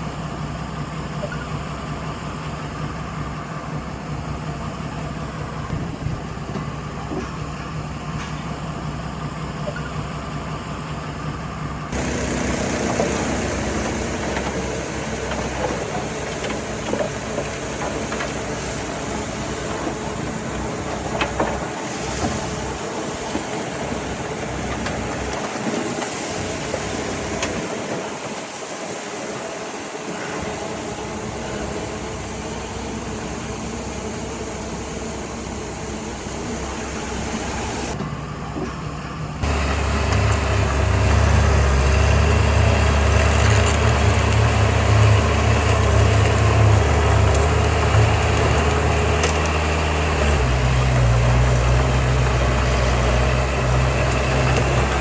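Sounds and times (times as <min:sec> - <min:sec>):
diesel machinery running: 0:00.0 - 0:55.0.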